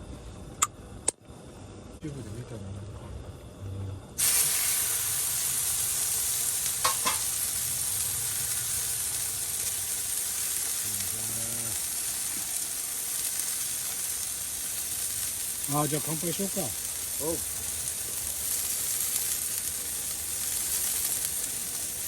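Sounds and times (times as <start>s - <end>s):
food sizzling in a pan: 4.2s - 22.0s.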